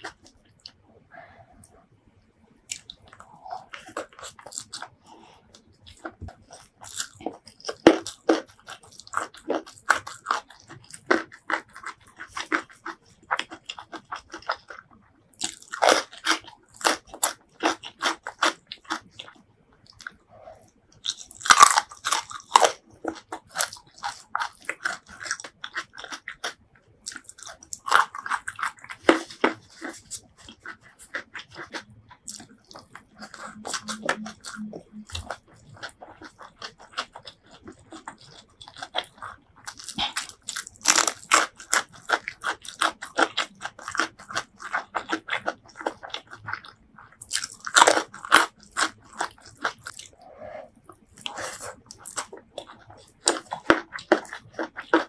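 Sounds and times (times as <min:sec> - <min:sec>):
wet chewing: 0:00.0 - 0:01.7, 0:02.7 - 0:55.0
crunching bites of vegetables: 0:02.7 - 0:20.2, 0:20.9 - 0:50.3, 0:50.9 - 0:55.0.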